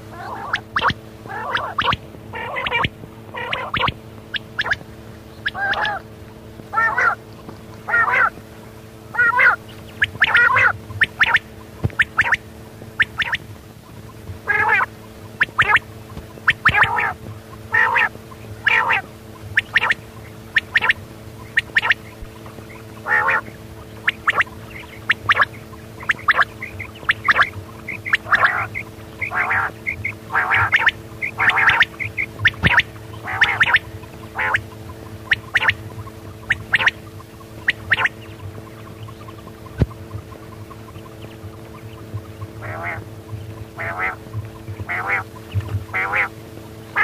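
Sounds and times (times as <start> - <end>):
quail calling: 0.0 - 47.0
steady hum: 0.0 - 47.0.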